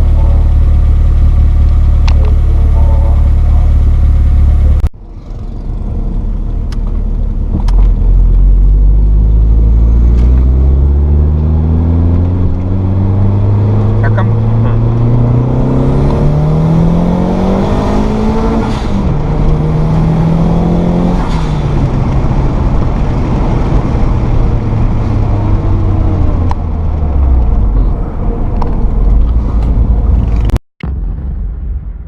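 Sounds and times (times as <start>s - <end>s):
car exhaust accelerating: 0.0s - 32.0s.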